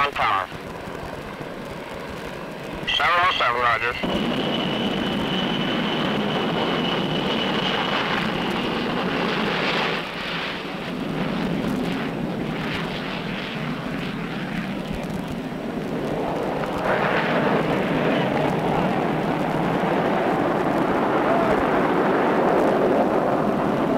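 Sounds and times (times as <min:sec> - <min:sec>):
high jet whine: 0:00.0 - 0:23.9
jet engine roar: 0:00.0 - 0:23.9.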